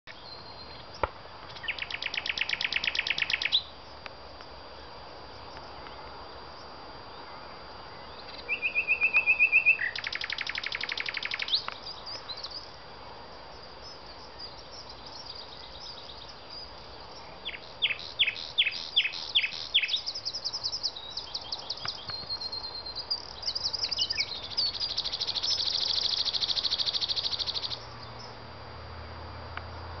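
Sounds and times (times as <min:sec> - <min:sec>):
nightingale singing: 0:00.1 - 0:03.8, 0:06.6 - 0:12.8, 0:13.5 - 0:28.4.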